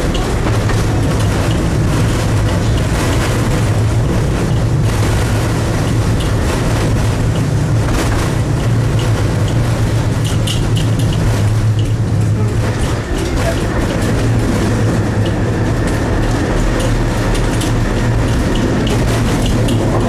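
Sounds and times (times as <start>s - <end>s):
tram running on rails: 0.0s - 20.0s.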